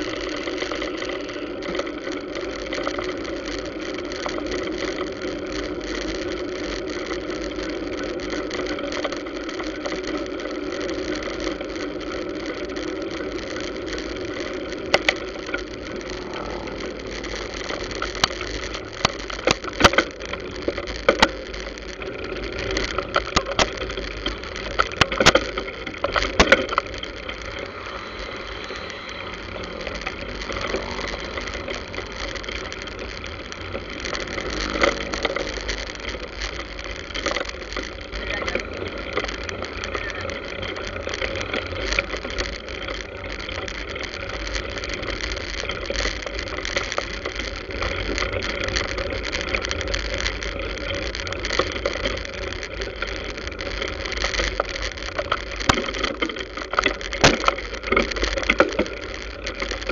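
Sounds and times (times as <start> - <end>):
scooters and cars passing: 0.0 - 59.9.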